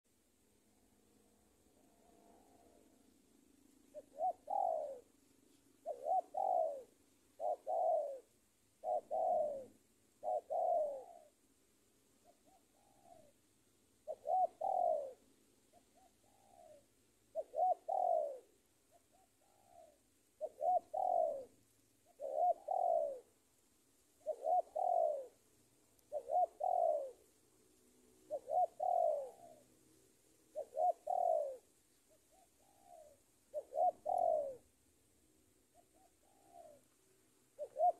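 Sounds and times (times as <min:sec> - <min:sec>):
dove cooing: 0:01.7 - 0:11.5, 0:12.2 - 0:23.5, 0:24.1 - 0:27.4, 0:28.0 - 0:34.8, 0:35.4 - 0:37.9.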